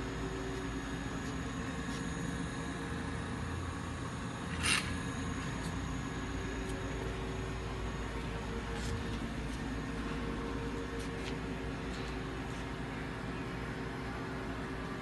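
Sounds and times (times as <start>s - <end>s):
lathe machine hum: 0.0s - 14.9s.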